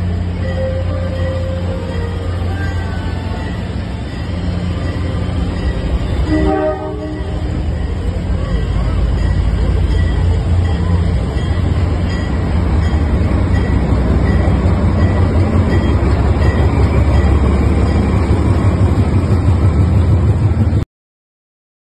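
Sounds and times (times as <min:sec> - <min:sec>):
diesel locomotive rumbling past: 0:00.0 - 0:20.8.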